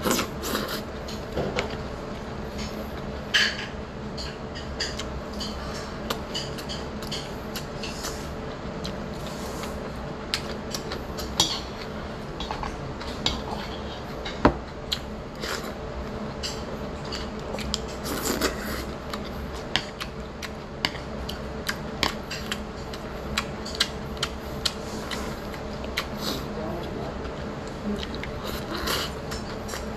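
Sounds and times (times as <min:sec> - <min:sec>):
steady low hum: 0:00.0 - 0:29.9
chewing and slurping noodles: 0:04.9 - 0:29.9.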